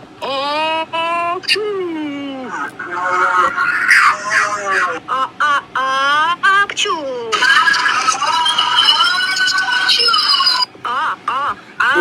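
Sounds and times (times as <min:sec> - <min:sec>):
high-pitched cartoon voice: 0:00.2 - 0:12.0.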